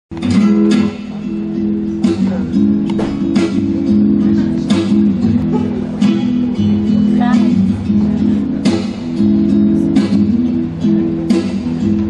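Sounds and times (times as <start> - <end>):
guitar strumming chords: 0.1 - 12.0.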